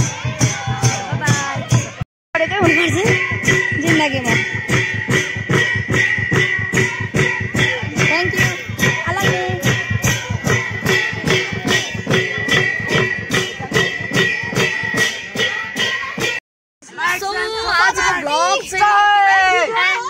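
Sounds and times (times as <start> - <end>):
song with fast beat: 0.0 - 16.4.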